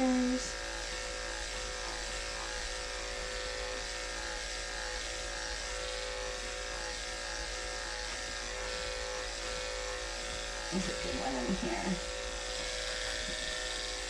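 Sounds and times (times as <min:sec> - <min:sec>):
electric clippers humming: 0:00.0 - 0:14.0.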